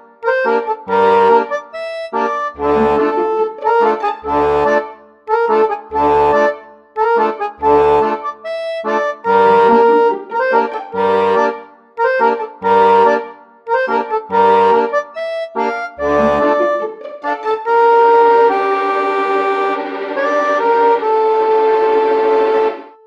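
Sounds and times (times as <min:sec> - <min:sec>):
instrumental background music: 0:00.0 - 0:23.0.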